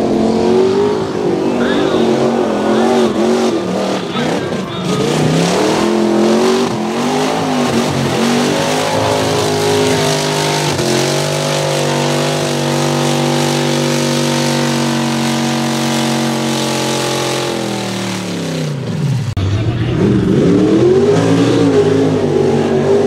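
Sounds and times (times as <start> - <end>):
engine revving at full throttle: 0.0 - 23.0.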